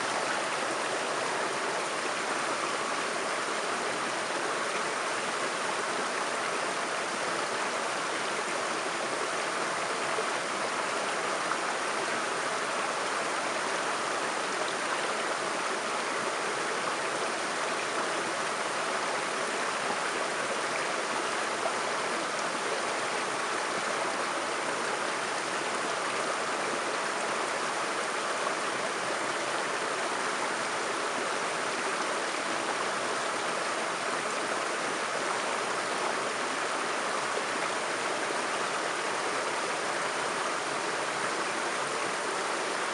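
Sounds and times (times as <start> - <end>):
waterfall pouring and splashing: 0.0 - 42.9.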